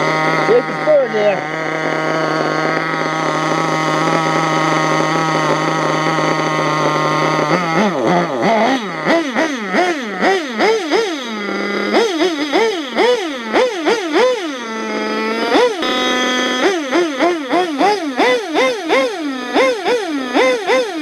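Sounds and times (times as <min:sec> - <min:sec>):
rc truck engine revving: 0:00.0 - 0:21.0.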